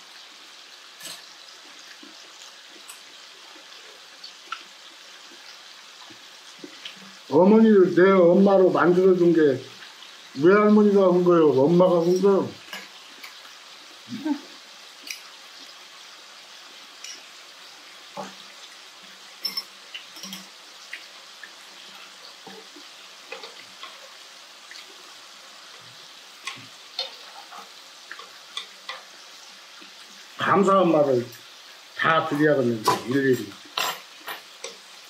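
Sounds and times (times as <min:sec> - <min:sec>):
meat sizzling in a frying pan: 0:00.0 - 0:35.0.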